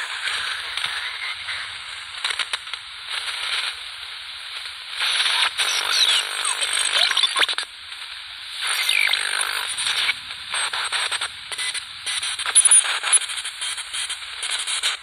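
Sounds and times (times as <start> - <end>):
radio static hiss and crackle: 0.0 - 15.0.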